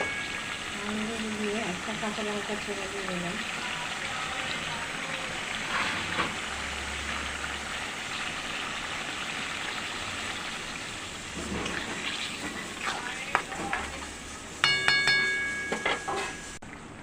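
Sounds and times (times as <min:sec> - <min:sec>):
gravy simmering and sizzling: 0:00.0 - 0:17.0.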